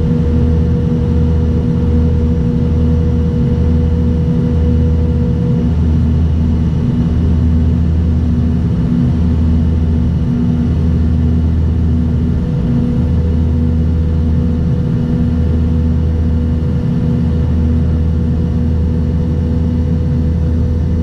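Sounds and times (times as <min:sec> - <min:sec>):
turboprop cabin drone: 0:00.0 - 0:21.0.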